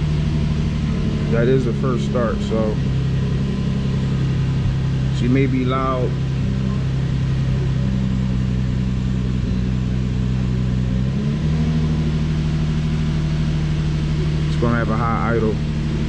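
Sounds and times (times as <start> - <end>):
car engine idling high: 0.0 - 16.0.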